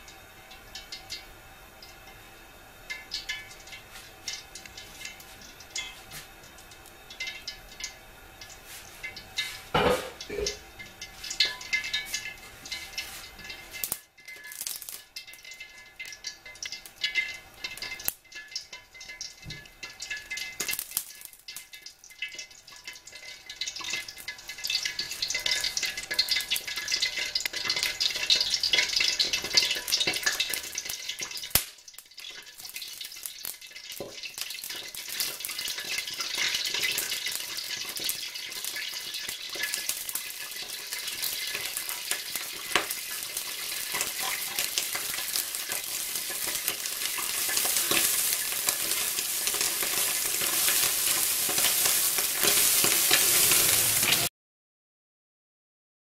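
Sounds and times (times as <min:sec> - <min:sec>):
oil crackling and sizzling in a wok: 0:00.0 - 0:54.3.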